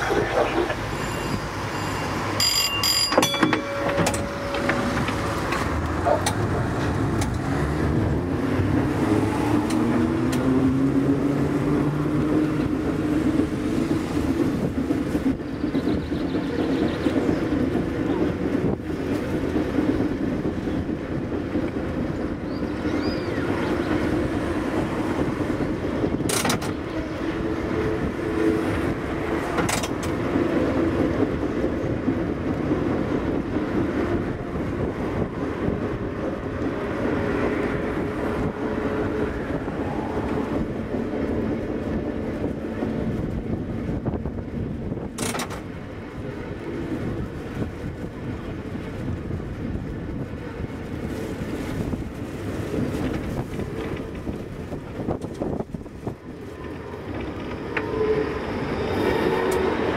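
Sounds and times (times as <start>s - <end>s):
tram hum and wheel rumble: 0.0s - 59.9s.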